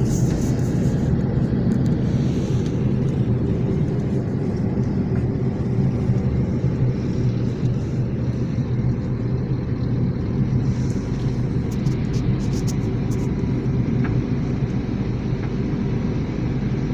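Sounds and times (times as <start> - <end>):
vehicle engine and road noise: 0.0 - 16.9.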